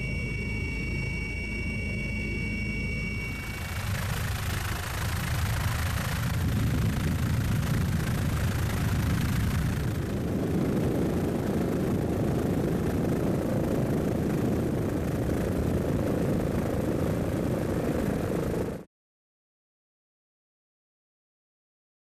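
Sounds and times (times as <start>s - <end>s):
helicopter engine and rotor drone: 0.0s - 18.9s.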